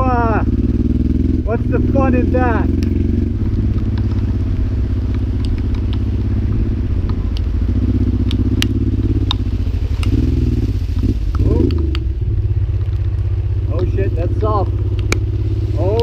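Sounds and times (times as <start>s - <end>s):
motorcycle engine running: 0.0s - 16.0s
sharp ticks: 2.0s - 16.0s.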